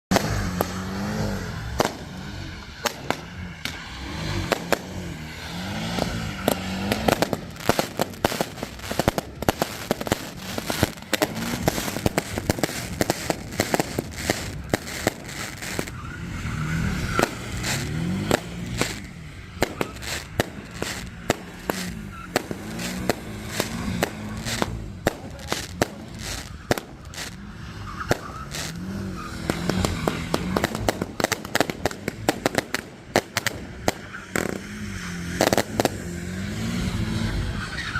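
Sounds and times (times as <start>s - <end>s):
car engine revving: 0.1s - 37.9s
exhaust pops and bangs: 1.7s - 5.1s, 5.8s - 16.2s, 17.0s - 34.7s, 35.3s - 36.1s.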